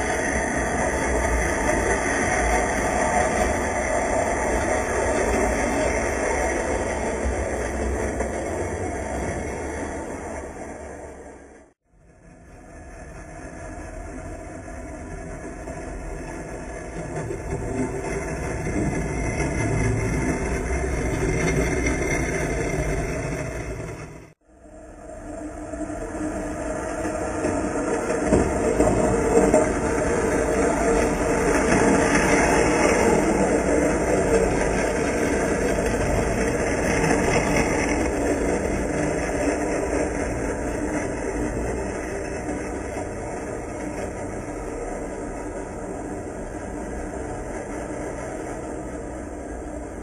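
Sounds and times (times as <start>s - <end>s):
model locomotive running: 0.0s - 11.6s, 12.3s - 24.3s, 25.8s - 50.0s
train wheels rumbling on rails: 0.0s - 11.6s, 12.3s - 24.4s, 26.2s - 50.0s.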